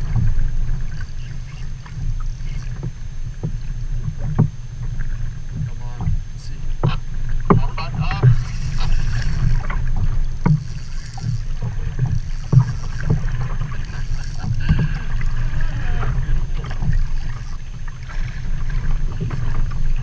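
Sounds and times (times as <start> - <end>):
waves slapping a kayak hull: 0.0 - 20.0.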